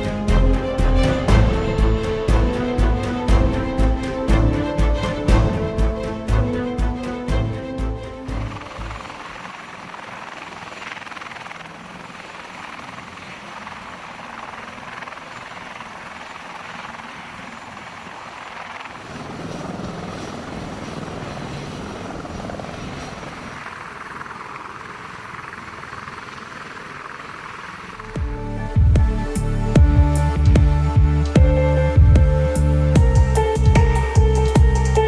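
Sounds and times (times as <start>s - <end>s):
aircraft engine: 0.0s - 31.0s.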